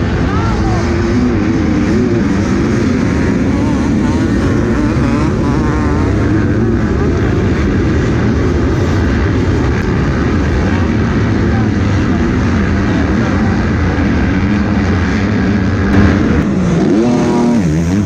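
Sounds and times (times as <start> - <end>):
motocross bike engines racing: 0.0 - 18.0.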